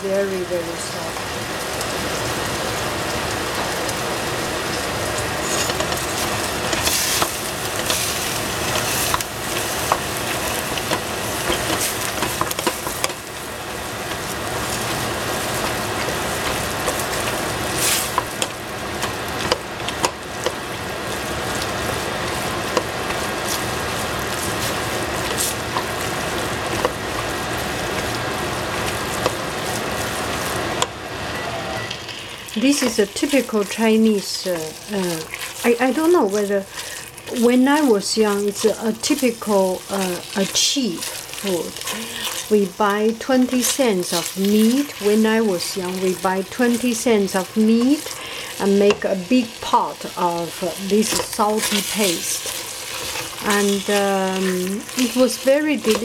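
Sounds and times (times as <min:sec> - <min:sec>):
meat frying in a pot: 0:00.0 - 0:56.0
wooden spoon scraping a pot: 0:05.2 - 0:13.4, 0:14.1 - 0:30.6, 0:32.1 - 0:56.0.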